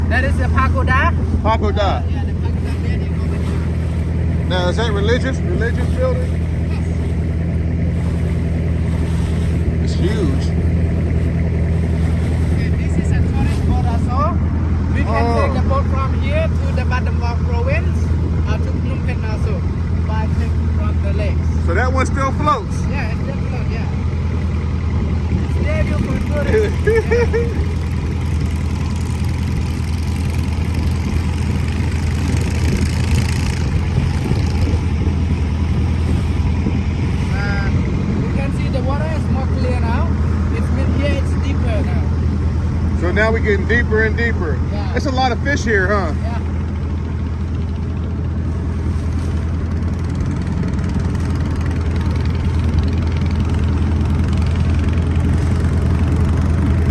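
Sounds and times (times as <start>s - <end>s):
motorboat engine droning: 0.0s - 56.9s.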